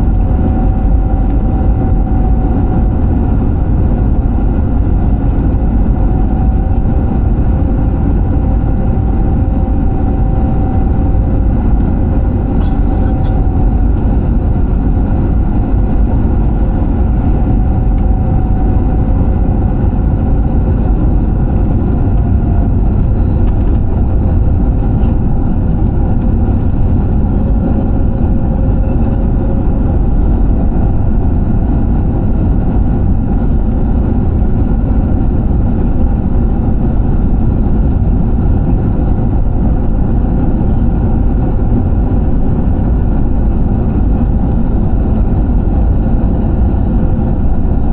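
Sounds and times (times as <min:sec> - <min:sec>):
airliner cabin jet engine rumble: 0:00.0 - 0:47.9.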